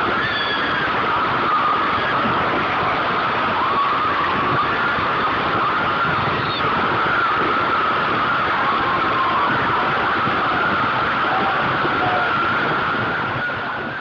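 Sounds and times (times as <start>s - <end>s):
roller coaster train roaring on track: 0.0s - 14.0s
wheels whining: 0.0s - 14.0s.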